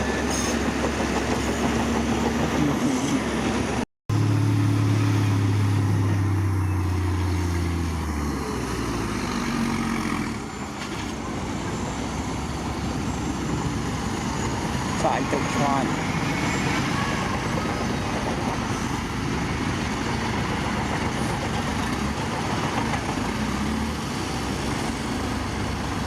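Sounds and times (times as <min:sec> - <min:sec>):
construction machinery running: 0:00.0 - 0:26.0.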